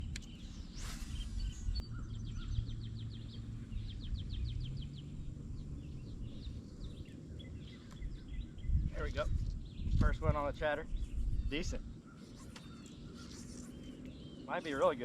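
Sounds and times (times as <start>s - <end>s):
low outdoor rumble: 0.0s - 15.0s
songbird chirping: 0.0s - 15.0s.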